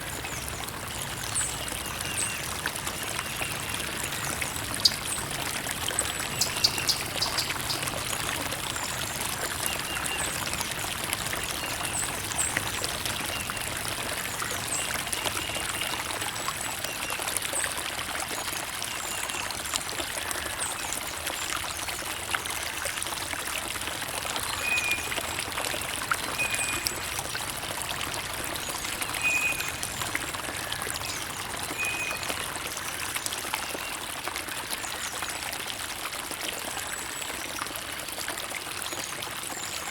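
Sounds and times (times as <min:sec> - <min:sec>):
creek water trickling and bubbling: 0:00.0 - 0:39.9.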